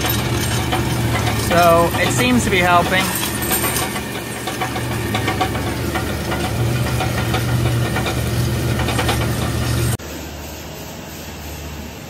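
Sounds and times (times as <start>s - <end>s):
rattling: 0.0s - 10.0s
tractor engine drone: 0.0s - 12.0s.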